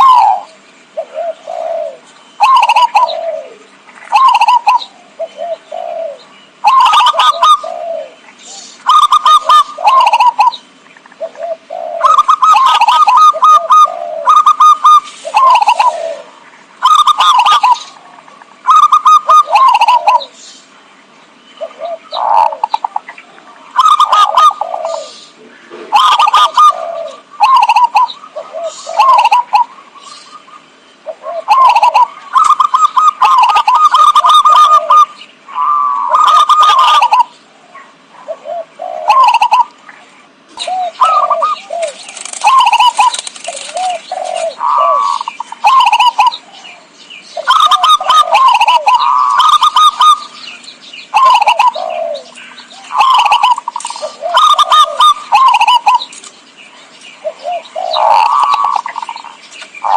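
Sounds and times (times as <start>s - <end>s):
dove bubbling coos: 0.0s - 20.4s, 21.6s - 56.2s, 57.2s - 59.9s.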